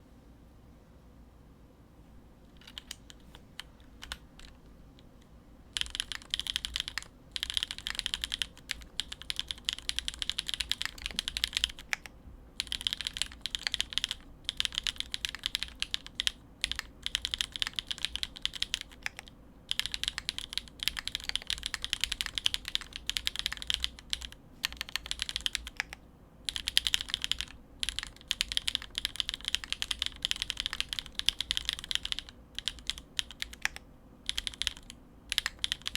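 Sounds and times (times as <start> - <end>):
mechanical keyboard typing: 2.5 - 5.1, 5.7 - 35.9.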